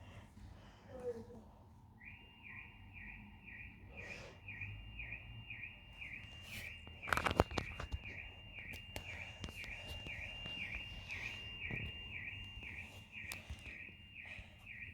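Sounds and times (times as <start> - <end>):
car alarm siren chirping: 1.9 - 14.9.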